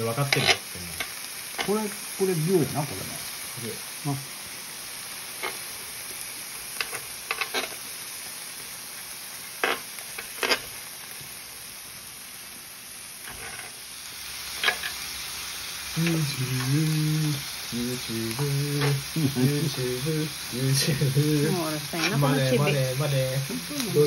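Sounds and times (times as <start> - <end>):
food sizzling on a hot plate: 0.0 - 24.0.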